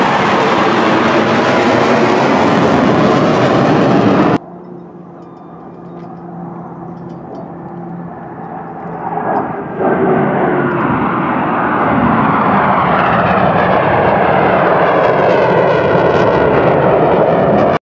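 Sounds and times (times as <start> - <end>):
airplane engine low pass: 0.0 - 17.8.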